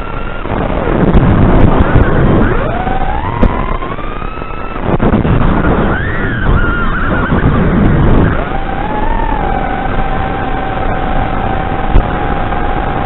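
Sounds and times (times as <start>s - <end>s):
drone motors whining: 0.0s - 13.0s
noisy rush: 0.0s - 13.0s.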